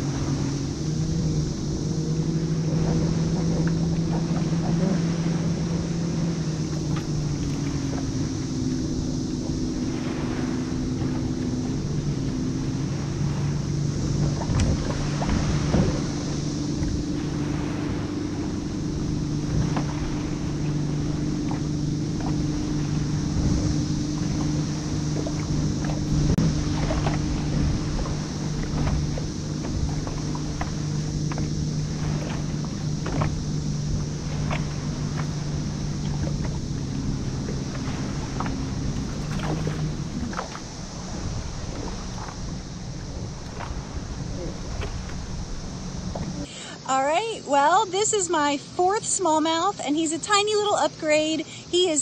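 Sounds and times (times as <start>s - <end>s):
boat motor humming: 0.0s - 52.0s
water noise: 0.0s - 52.0s
wind: 0.0s - 52.0s.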